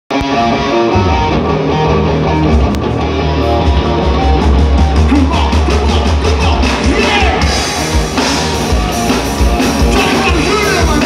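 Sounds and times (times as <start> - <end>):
electric bass: 0.1 - 11.0
electric guitar: 0.1 - 11.0.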